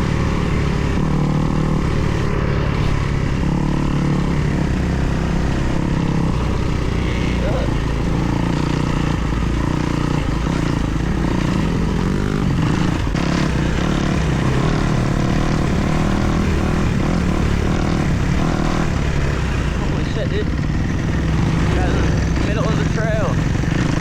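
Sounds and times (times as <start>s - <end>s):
motocross bike engine running: 0.0s - 24.0s.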